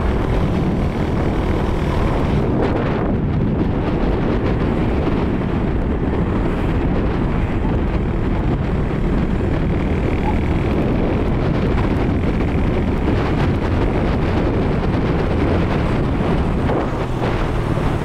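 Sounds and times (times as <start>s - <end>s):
vehicle road noise: 0.0s - 18.0s
wind rushing on microphone: 0.0s - 18.0s.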